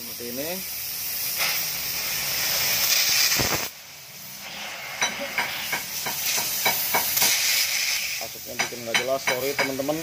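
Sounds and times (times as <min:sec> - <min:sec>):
arc welding crackle: 0:00.0 - 0:10.0.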